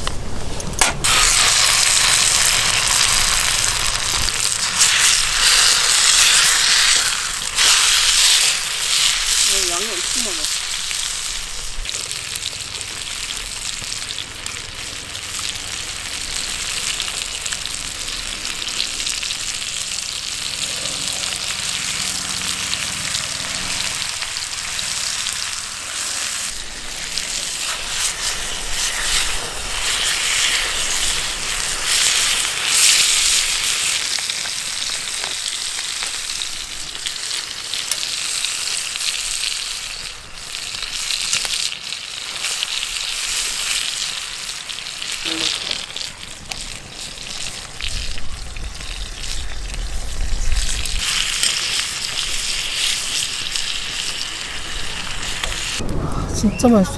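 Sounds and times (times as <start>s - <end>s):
chicken sizzling in a pan: 0.8s - 55.8s.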